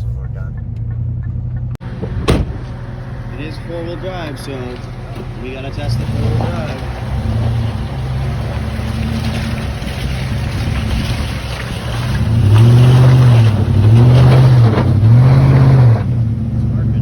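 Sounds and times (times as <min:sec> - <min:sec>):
pickup truck engine revving: 0:00.0 - 0:17.0.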